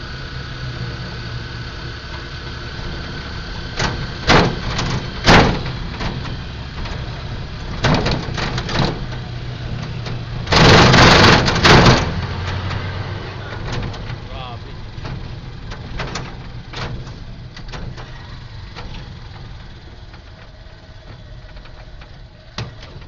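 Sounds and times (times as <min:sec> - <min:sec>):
engine and road hum: 0:00.0 - 0:23.0
sharp clatters: 0:03.8 - 0:23.0.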